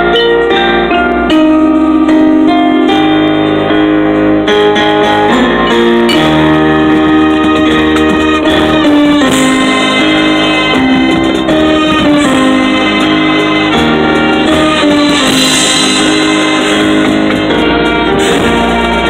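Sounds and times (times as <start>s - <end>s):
keyboard percussion: 0.0s - 19.0s
marching band playing chords: 0.0s - 19.0s.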